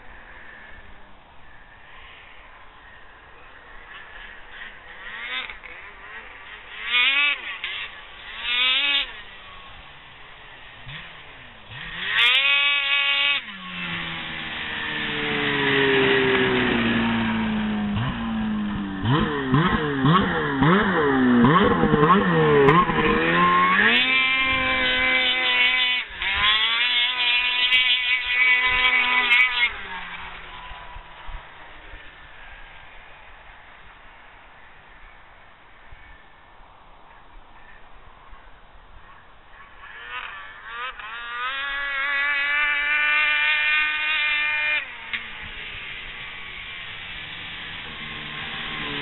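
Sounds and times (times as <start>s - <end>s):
snowmobile engine revving: 3.4s - 33.1s, 39.0s - 49.0s.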